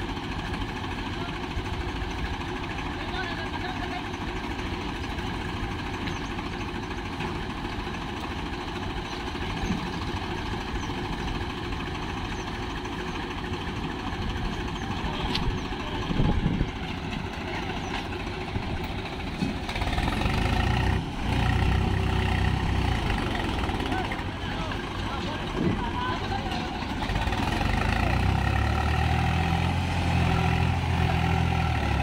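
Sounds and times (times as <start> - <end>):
tractor diesel engine straining: 0.0 - 32.0.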